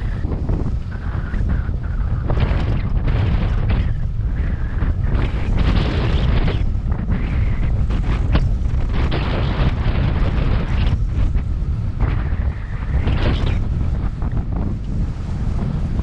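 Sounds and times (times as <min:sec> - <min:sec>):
rushing water and spray: 0:00.0 - 0:16.0
strong wind buffeting microphone: 0:00.0 - 0:16.0.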